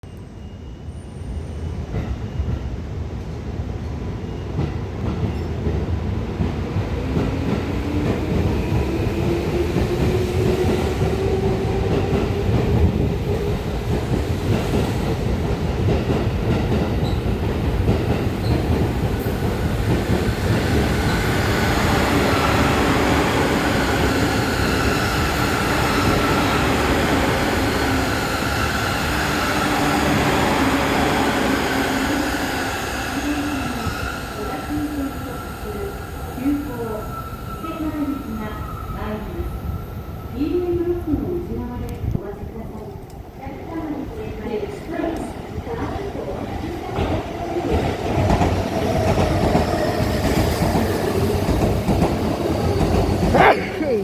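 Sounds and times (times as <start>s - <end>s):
rising tone of train: 0.0s - 54.0s
train wheels rumbling on rails: 1.7s - 54.0s.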